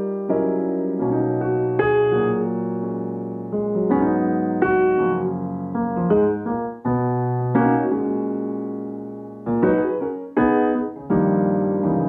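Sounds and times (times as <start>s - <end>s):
piano chords ringing: 0.0s - 12.0s.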